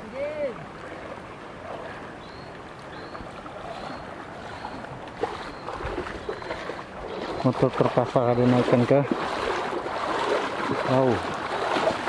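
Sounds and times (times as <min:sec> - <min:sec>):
floodwater sloshing and splashing: 0:00.0 - 0:12.0.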